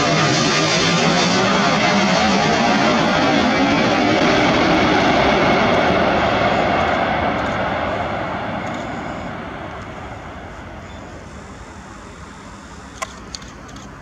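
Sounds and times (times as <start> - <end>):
jet engines of landing aircraft: 0.0 - 14.0.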